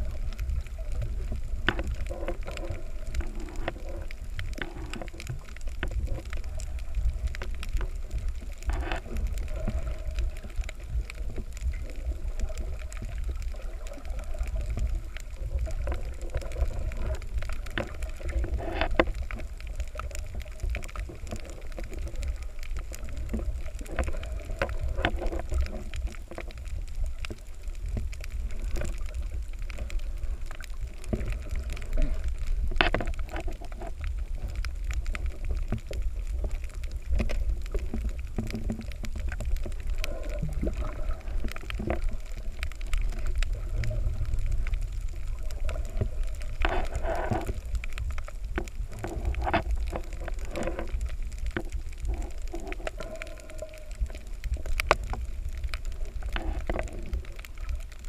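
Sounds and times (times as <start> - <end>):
underwater rumble: 0.0 - 58.0.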